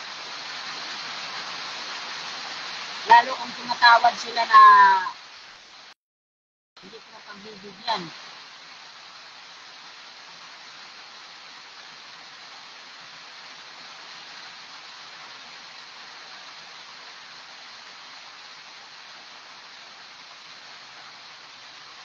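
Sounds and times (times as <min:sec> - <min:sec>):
steady rain hiss: 0:00.0 - 0:06.0, 0:06.8 - 0:22.0.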